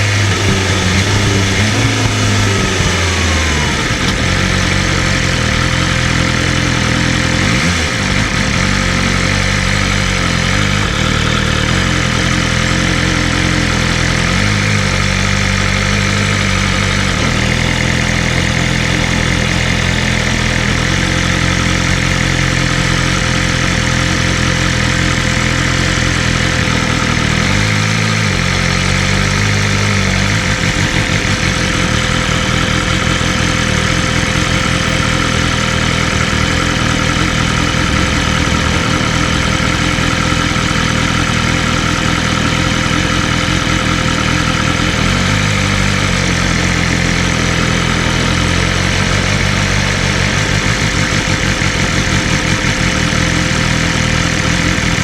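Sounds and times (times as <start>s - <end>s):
motorcycle engine running steadily: 0.0s - 55.0s.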